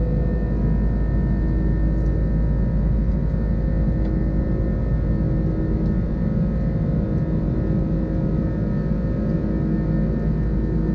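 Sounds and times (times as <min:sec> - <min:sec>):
aircraft cabin engine rumble: 0:00.0 - 0:10.9.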